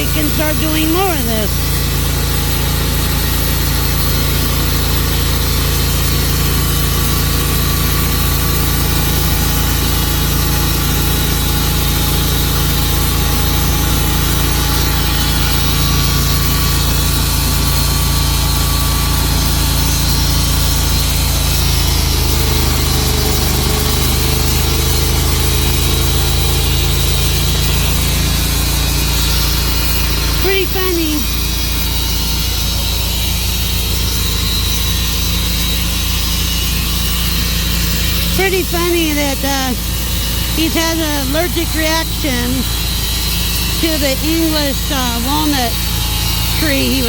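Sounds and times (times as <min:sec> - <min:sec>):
sawmill engine humming: 0:00.0 - 0:47.0.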